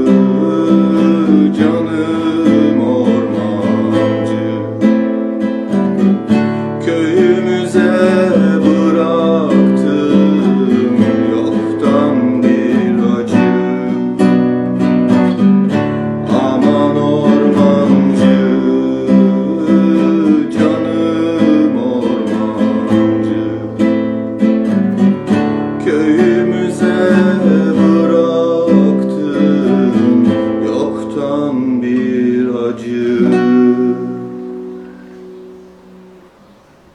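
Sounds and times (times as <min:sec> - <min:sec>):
plucked string instrument folk tune: 0:00.0 - 0:36.9.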